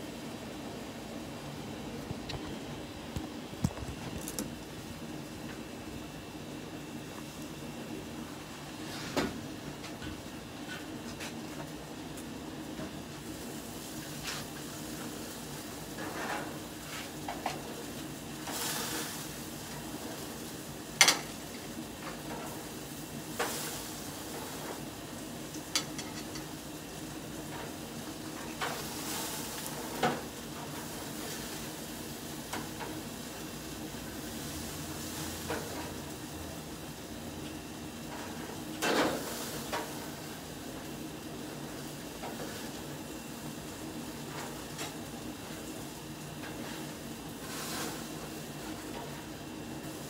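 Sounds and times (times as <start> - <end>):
burgers sizzling on grill: 2.8 - 50.0.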